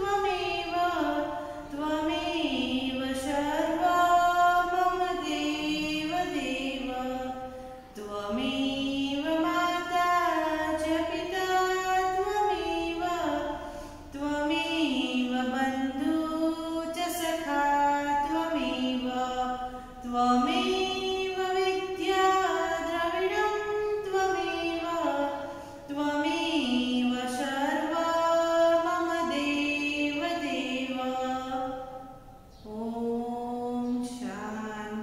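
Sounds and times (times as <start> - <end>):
woman singing a prayer: 0.0 - 35.0.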